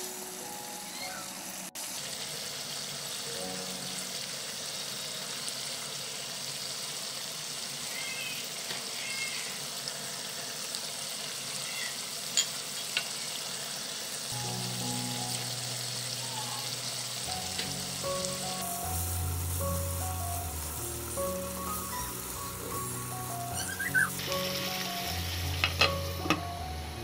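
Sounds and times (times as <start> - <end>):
curry sizzling in a pan: 0.0 - 27.0.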